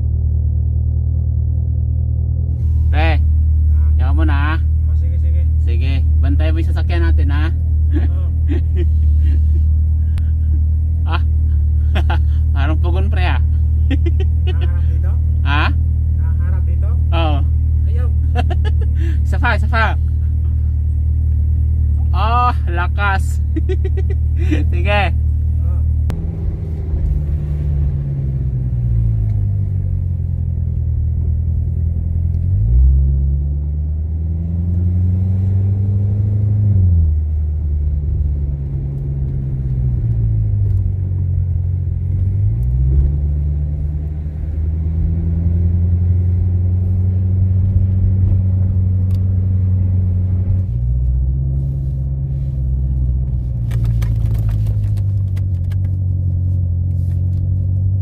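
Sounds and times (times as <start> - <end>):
sports car engine accelerating: 0.0 - 58.0.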